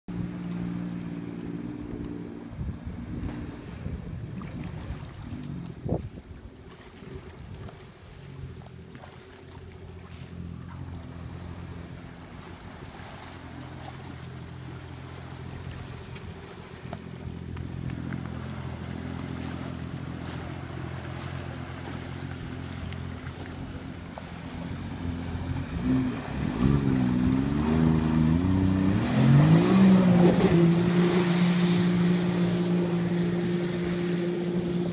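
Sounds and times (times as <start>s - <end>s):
personal watercraft engine: 0.1s - 34.9s.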